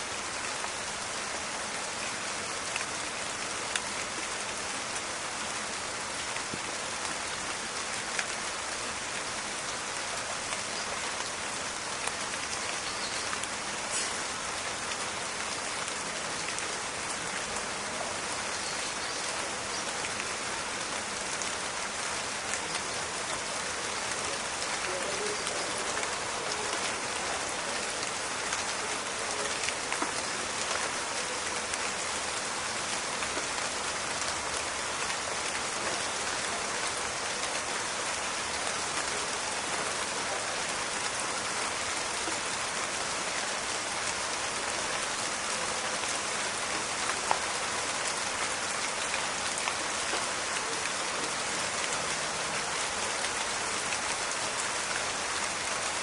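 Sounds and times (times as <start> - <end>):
rain pattering in a forest: 0.0 - 56.0.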